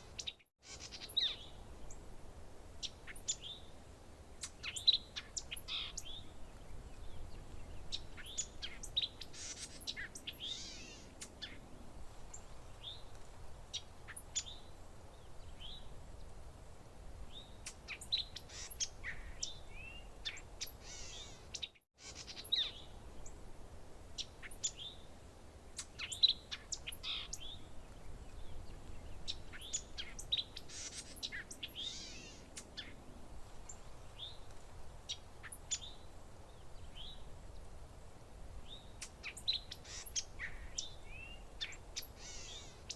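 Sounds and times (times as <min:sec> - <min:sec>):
songbirds chirping and trilling: 0:00.0 - 0:16.6, 0:17.2 - 0:42.9
faint low background noise: 0:00.0 - 0:42.9.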